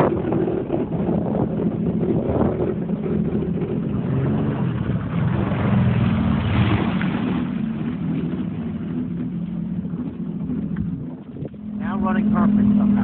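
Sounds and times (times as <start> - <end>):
watercraft engine running: 0.0 - 13.0.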